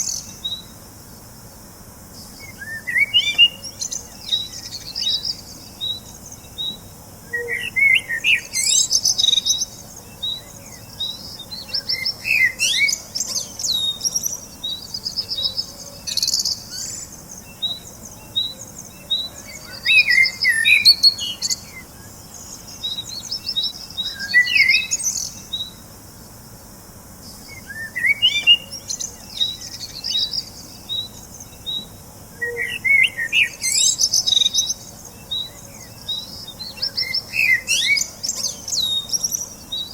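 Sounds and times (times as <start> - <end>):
birds chirping: 2.1 - 25.9, 27.1 - 39.9.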